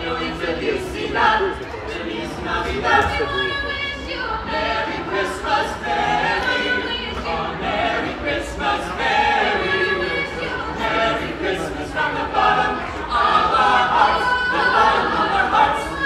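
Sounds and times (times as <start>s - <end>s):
group singing in harmony: 0.0s - 16.0s.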